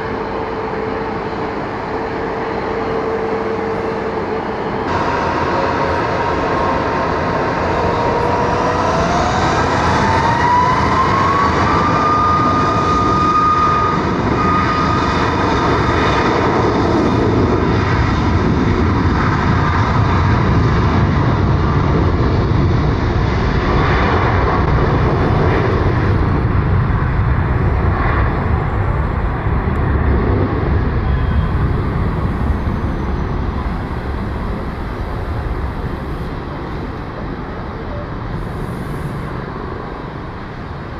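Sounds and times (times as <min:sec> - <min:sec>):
jet engine roar with deep rumble: 0:00.0 - 0:40.9
jet engines spooling up: 0:00.0 - 0:40.9.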